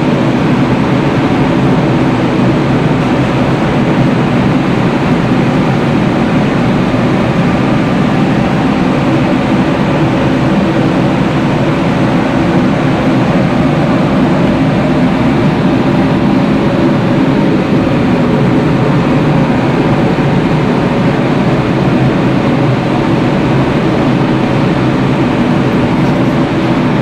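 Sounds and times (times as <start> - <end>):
pellet burner machine drone: 0.0 - 27.0.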